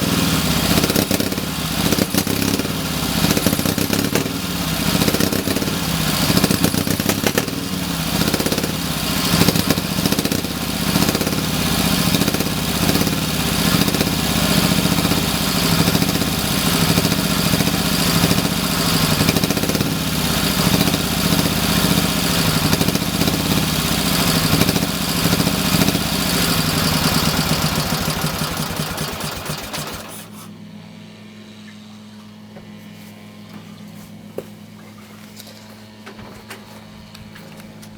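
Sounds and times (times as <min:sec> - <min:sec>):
motorcycle engine running unevenly: 0:00.0 - 0:37.9.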